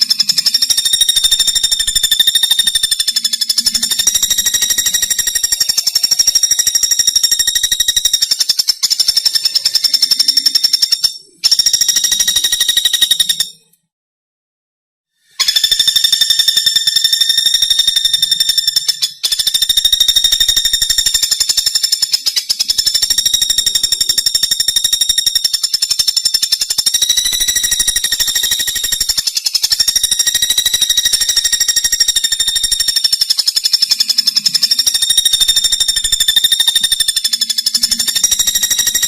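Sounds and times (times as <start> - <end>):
woodpecker rattling call: 0.0 - 13.7, 15.3 - 39.0.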